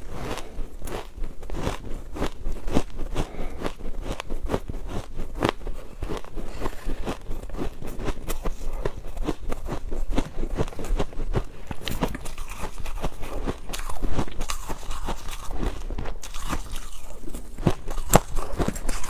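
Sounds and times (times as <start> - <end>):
person crunching ice: 0.0 - 19.0.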